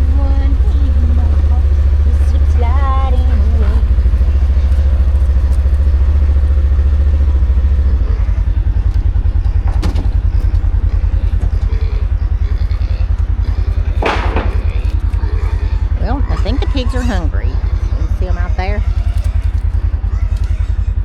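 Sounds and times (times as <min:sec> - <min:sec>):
vehicle engine low throb: 0:00.0 - 0:21.0.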